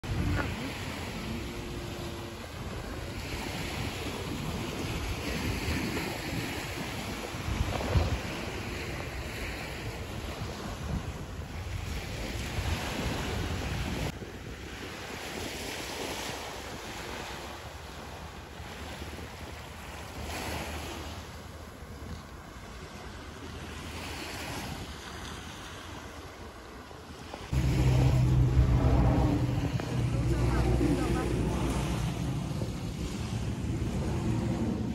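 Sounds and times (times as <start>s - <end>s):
small waves breaking on sand: 0.0s - 34.9s
wind buffeting microphone: 0.0s - 34.9s.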